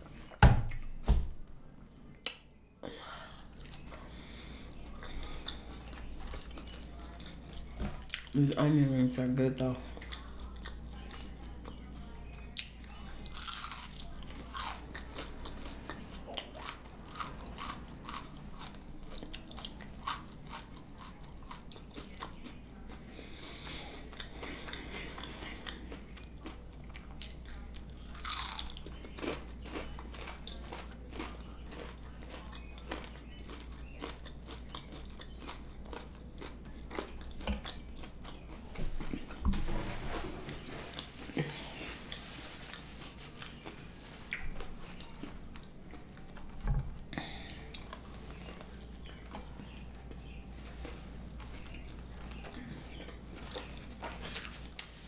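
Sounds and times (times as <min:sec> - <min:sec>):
low steady hum: 0:00.0 - 0:55.0
chewing crunchy onion rings: 0:03.3 - 0:04.2, 0:04.8 - 0:39.4, 0:40.5 - 0:46.6, 0:47.2 - 0:55.0.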